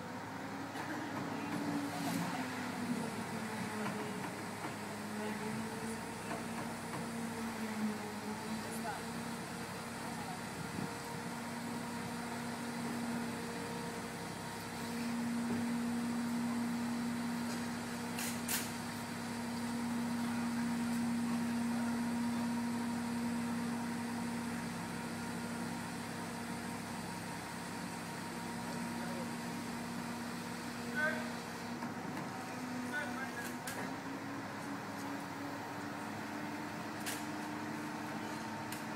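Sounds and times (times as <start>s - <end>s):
travel lift engine running: 0.0s - 38.9s.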